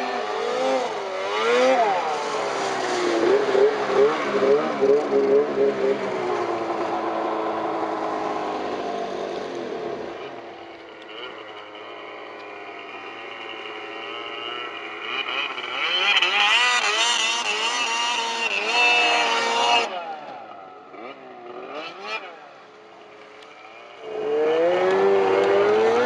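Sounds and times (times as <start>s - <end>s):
snowmobile engines revving: 0.0s - 26.0s.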